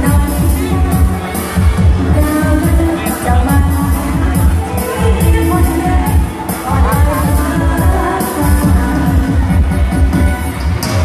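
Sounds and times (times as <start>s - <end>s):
heavy bass drum beat: 0.0s - 11.0s
loud amplified stage music: 0.0s - 11.0s.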